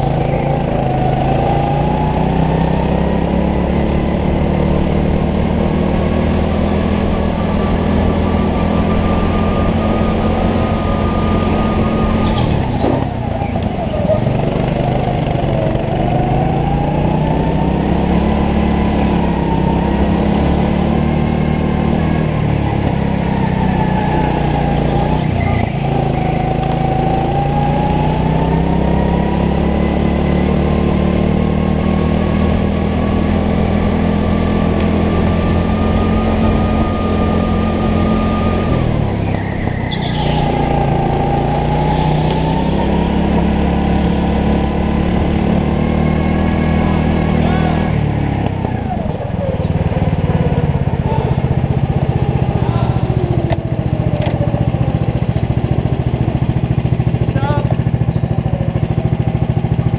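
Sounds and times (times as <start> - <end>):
go-kart engine whining: 0.0 - 59.9.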